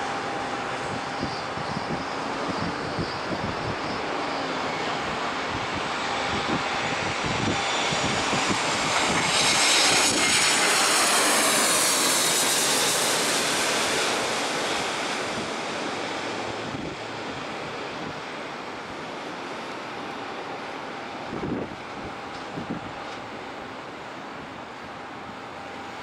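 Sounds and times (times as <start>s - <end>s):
airliner passing overhead: 0.0s - 26.0s.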